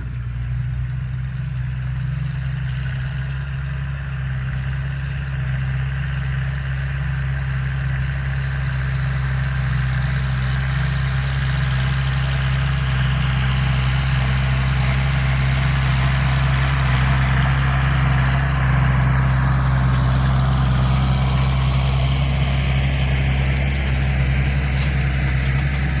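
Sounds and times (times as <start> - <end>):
tractor diesel engine rumbling: 0.0 - 26.0.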